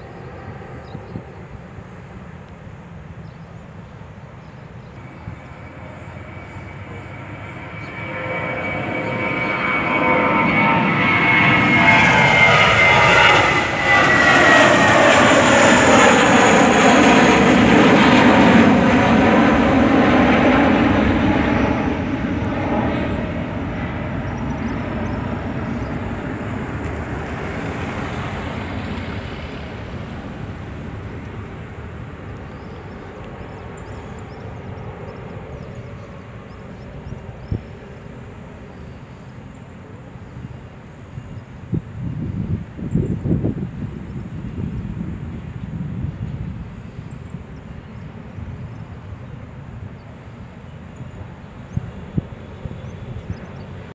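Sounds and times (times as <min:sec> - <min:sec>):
jet engines at takeoff: 0:00.0 - 0:53.9.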